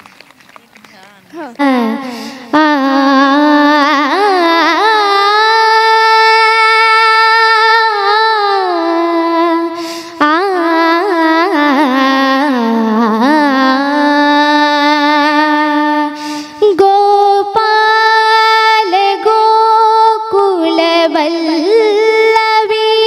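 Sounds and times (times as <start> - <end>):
girl singing wordless melody: 1.3 - 23.0.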